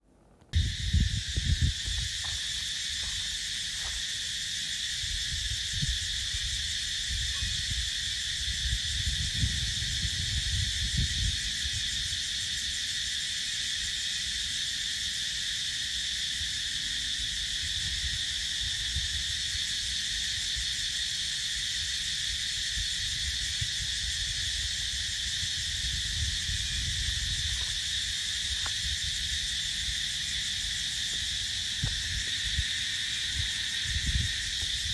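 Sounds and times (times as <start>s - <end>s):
cicadas buzzing: 0.5s - 34.9s.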